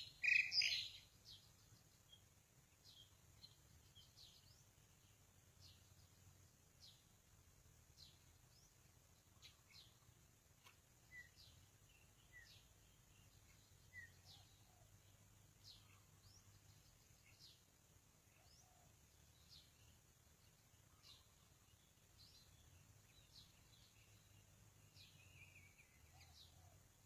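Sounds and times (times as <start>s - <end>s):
faint birdsong chirps: 0.0s - 27.0s.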